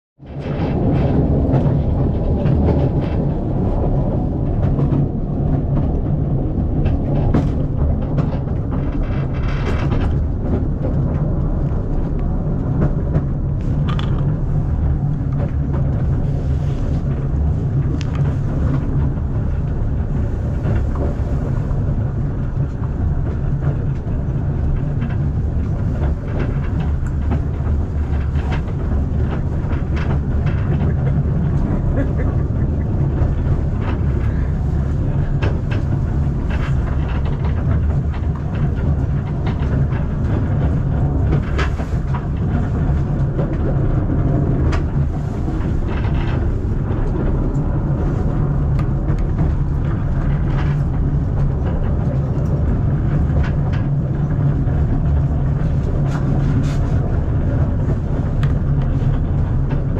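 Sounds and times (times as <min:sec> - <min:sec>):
clicks and rattles: 0:00.2 - 0:59.9
train carriage rumbling on track: 0:00.2 - 0:59.9.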